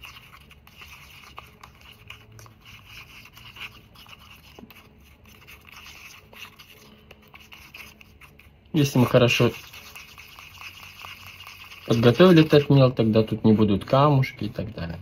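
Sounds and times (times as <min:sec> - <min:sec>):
stick scraping paste in cup: 0:00.0 - 0:15.0.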